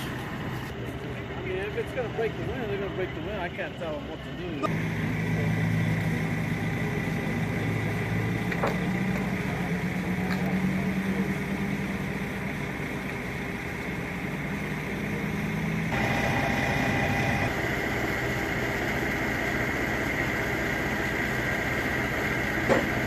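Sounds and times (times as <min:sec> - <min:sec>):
heavy engine humming: 0:00.0 - 0:23.0
high steady whine: 0:00.0 - 0:23.0.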